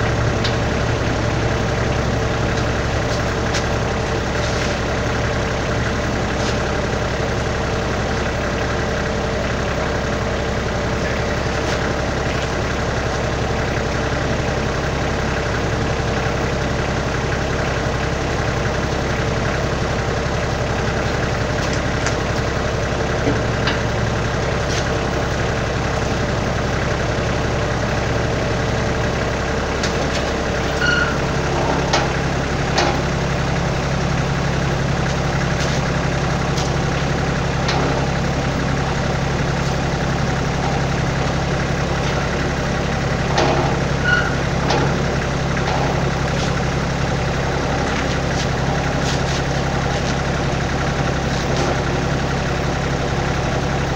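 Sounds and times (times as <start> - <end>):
tractor diesel engine idling: 0.0 - 53.9.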